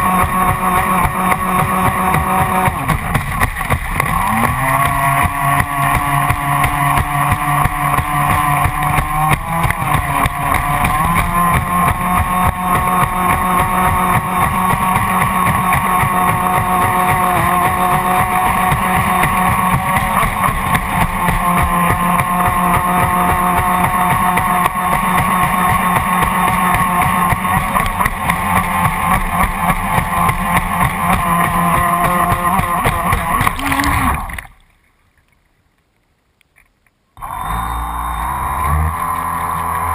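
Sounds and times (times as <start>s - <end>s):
electric motor whine: 0.0s - 34.5s, 37.2s - 39.9s
rushing water: 0.0s - 37.4s.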